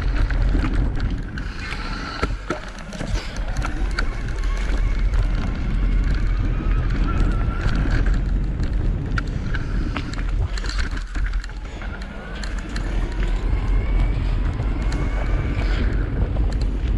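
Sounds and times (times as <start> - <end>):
bike rattling over ground: 0.0 - 16.9
wind buffeting microphone: 0.0 - 16.9.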